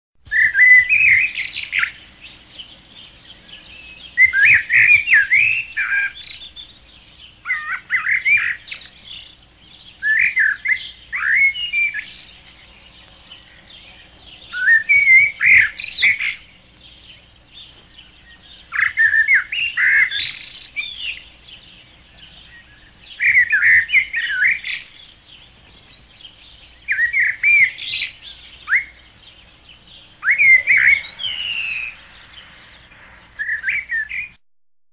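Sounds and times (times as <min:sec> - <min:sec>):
songbird whistling: 0:00.3 - 0:34.4.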